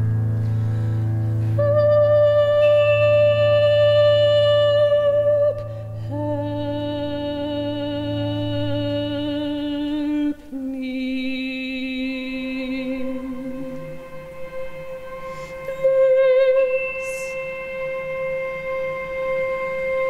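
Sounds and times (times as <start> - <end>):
slow orchestral music: 0.0 - 20.0.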